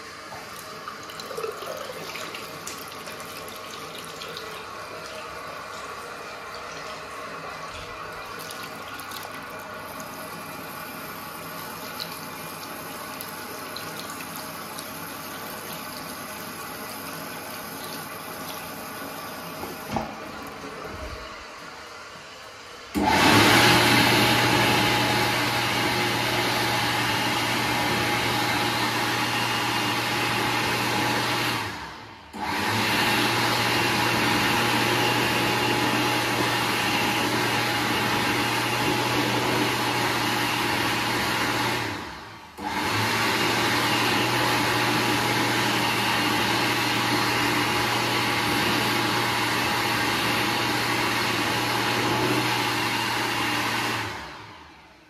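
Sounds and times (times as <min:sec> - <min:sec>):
hand dryer running: 0:00.0 - 0:55.0.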